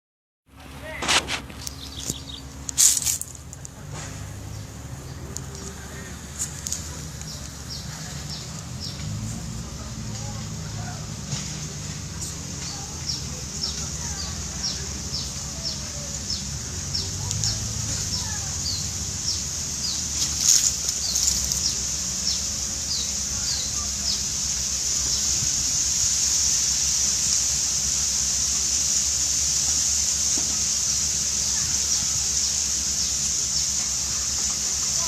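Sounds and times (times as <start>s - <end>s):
steady hiss: 0.5s - 35.0s.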